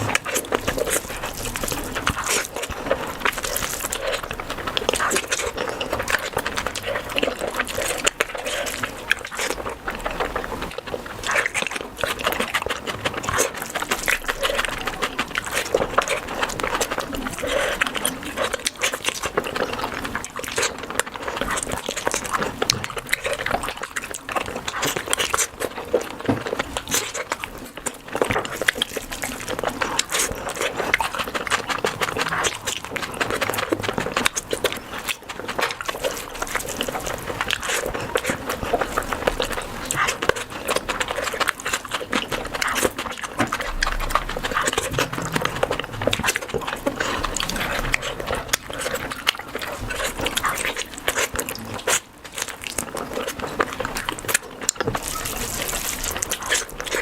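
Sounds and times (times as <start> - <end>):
lip smacking: 0.0 - 57.0
slurping food: 0.0 - 57.0
wet chewing: 0.0 - 57.0.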